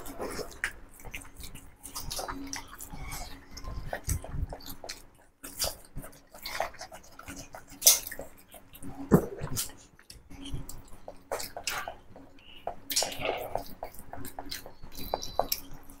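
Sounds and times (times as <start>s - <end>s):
chewing and lip-smacking: 0.0s - 16.0s.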